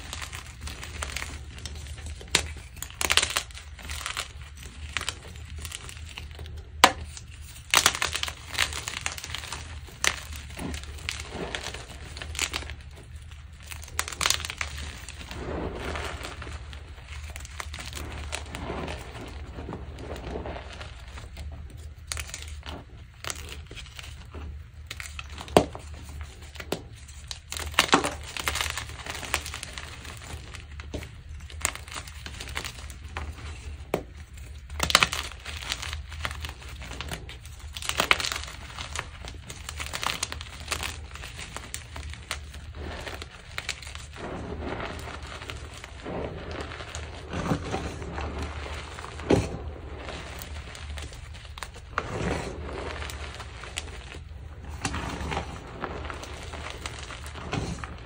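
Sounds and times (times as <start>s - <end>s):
chalk crunching and crackling: 0.0s - 58.0s.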